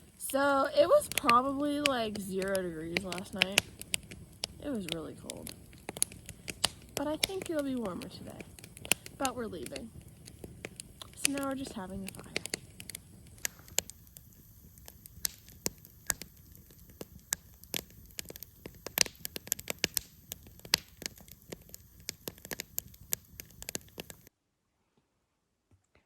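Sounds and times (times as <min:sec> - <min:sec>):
low background noise: 0:00.0 - 0:22.0
campfire crackling and popping: 0:00.0 - 0:24.3.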